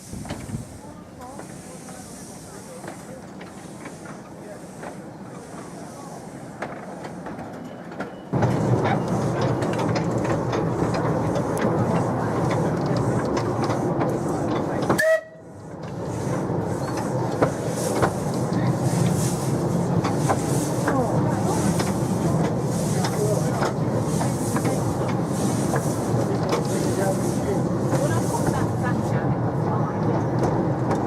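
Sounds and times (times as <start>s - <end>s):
wheels clicking over rail joints: 0.1s - 5.9s, 6.5s - 29.0s
miniature train running: 0.2s - 31.0s.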